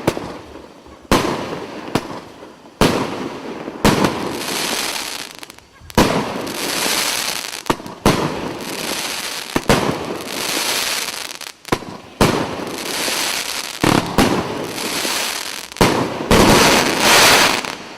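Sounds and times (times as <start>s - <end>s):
firework bangs: 0.0s - 17.9s
firework crackling: 0.0s - 17.9s.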